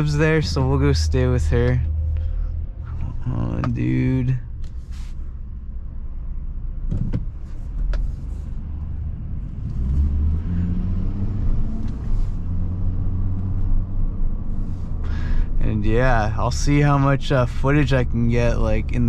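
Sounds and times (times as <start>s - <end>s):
pickup truck engine and road rumble: 0.0s - 19.0s.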